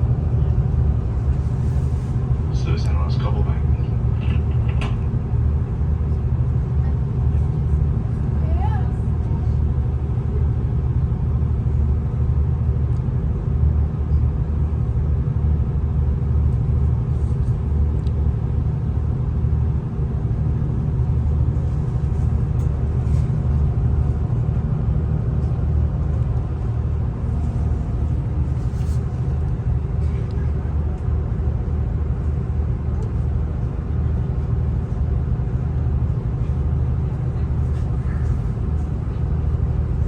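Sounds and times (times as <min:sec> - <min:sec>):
diesel train rumbling: 0:00.0 - 0:40.0.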